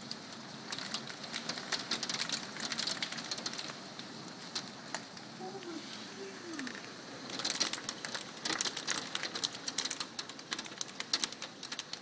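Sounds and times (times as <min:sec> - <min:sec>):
hailstones clattering on a deck: 0:00.0 - 0:05.7, 0:06.5 - 0:12.0.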